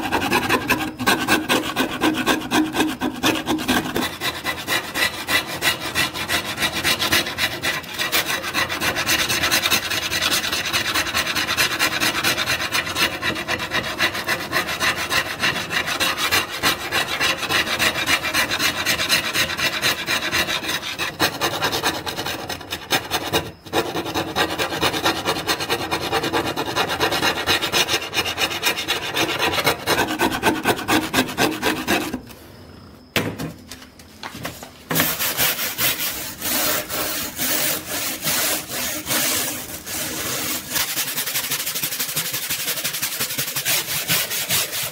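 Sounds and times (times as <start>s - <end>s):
chisel scraping steel blade: 0.0s - 32.3s, 34.9s - 44.9s.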